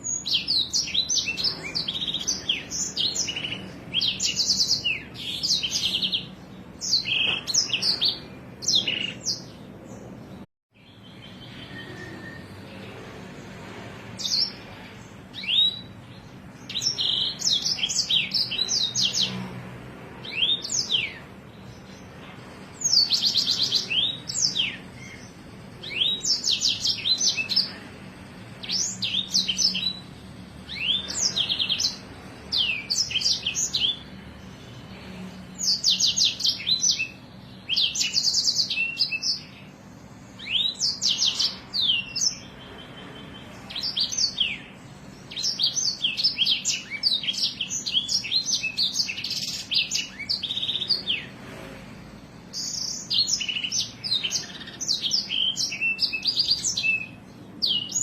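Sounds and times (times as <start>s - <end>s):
songbird singing chattering song: 0.0s - 58.0s.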